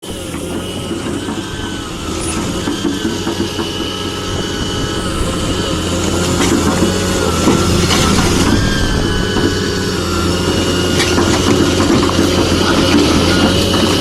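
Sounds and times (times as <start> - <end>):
excavator diesel engine running: 0.0 - 14.0
thin high whines: 0.0 - 14.0.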